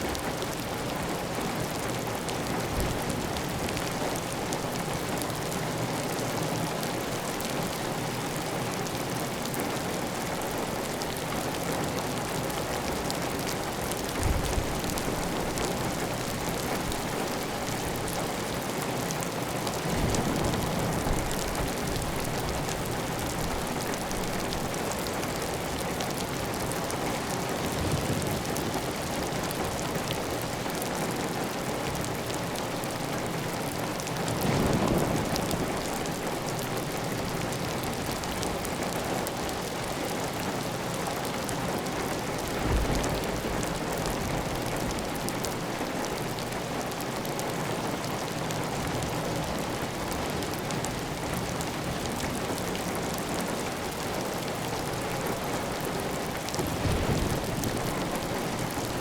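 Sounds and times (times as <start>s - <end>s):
heavy rain on a tile roof: 0.0s - 59.0s.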